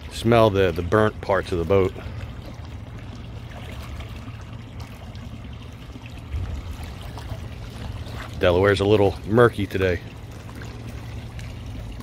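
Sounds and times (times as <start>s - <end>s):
river water lapping at shore: 0.0s - 12.0s.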